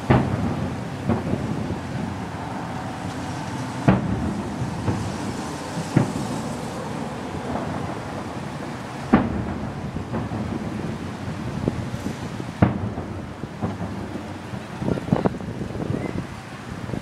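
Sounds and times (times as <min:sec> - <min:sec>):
distant firework shells bursting: 0:00.0 - 0:15.2.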